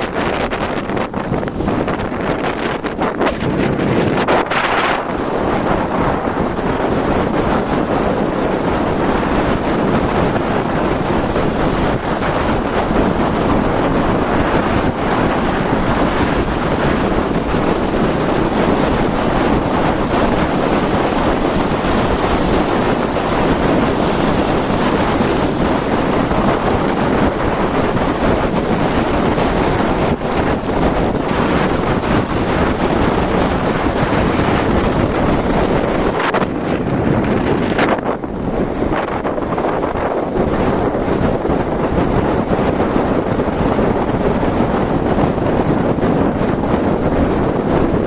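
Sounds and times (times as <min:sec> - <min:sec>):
strong wind on microphone: 0:00.0 - 0:48.0
water rushing along board: 0:00.0 - 0:48.0.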